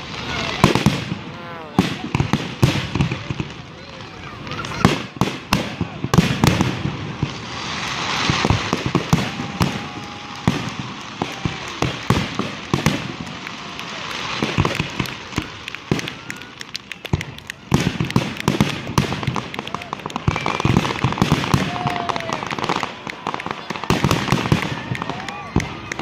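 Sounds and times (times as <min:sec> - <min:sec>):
fireworks booming and cracking: 0:00.0 - 0:26.0
rapid crackling bangs: 0:00.0 - 0:26.0.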